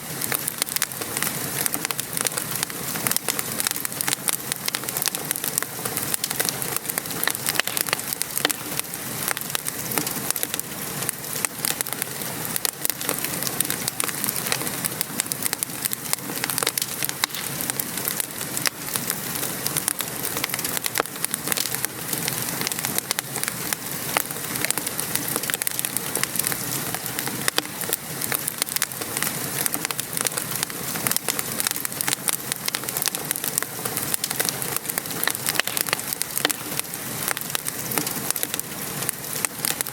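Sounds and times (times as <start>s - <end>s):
rain patter: 0.0s - 39.9s
wood fire crackling: 0.0s - 39.9s.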